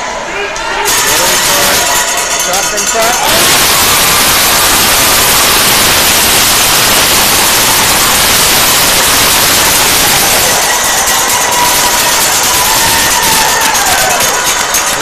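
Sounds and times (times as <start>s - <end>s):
spectators applauding: 0.9s - 15.0s.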